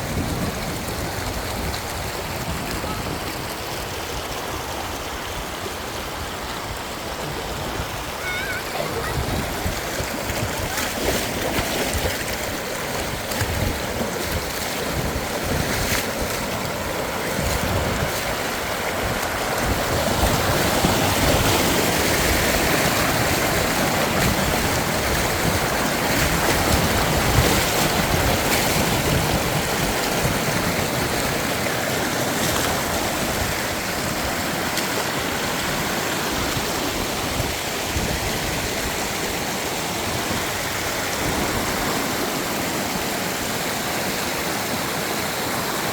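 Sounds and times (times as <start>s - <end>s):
water flowing: 0.0s - 45.9s.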